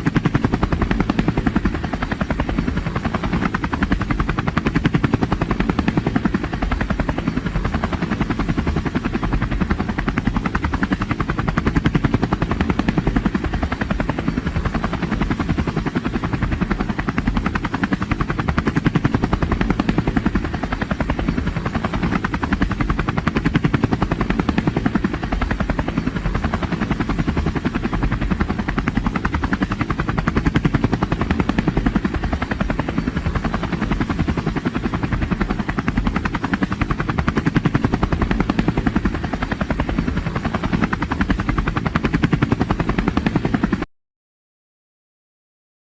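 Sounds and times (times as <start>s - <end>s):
helicopter rotor chop: 0.0s - 43.9s.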